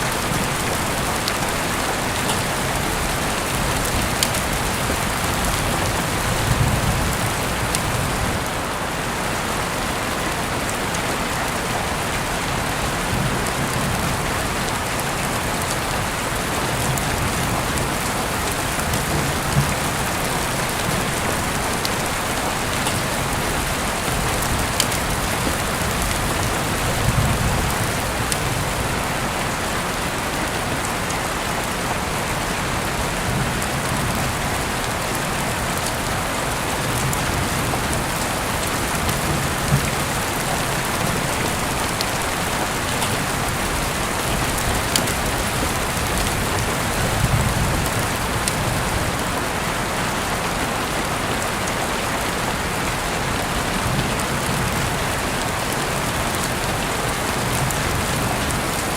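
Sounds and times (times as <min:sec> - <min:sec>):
heavy rain hissing: 0:00.0 - 0:58.9
rain drips and patters: 0:00.0 - 0:58.9.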